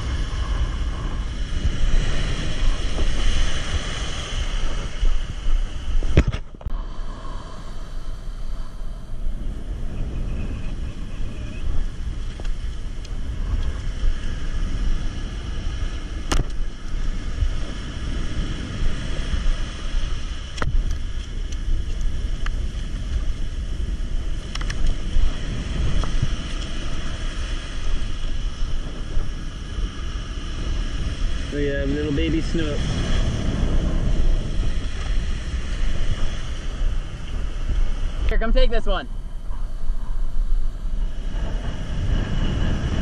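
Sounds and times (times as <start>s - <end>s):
ocean surf washing up: 0.0s - 43.0s
wind buffeting microphone: 0.0s - 43.0s.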